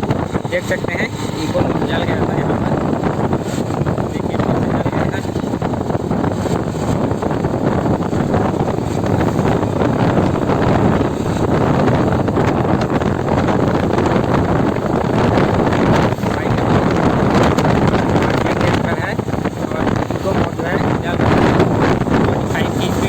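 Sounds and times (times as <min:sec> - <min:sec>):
motorcycle engine: 0:00.0 - 0:23.0
road noise: 0:00.0 - 0:23.0
wind on microphone: 0:00.0 - 0:23.0.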